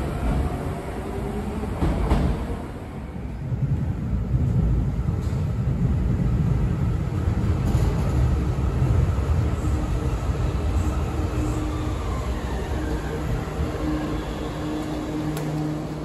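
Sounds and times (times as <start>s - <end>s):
metro train rumbling into station: 0.0s - 16.0s.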